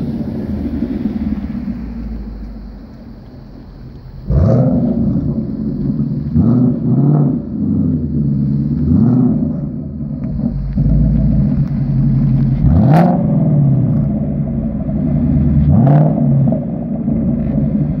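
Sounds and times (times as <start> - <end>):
car engine deep rumble: 0.0 - 18.0
engine throttle blips: 0.0 - 18.0.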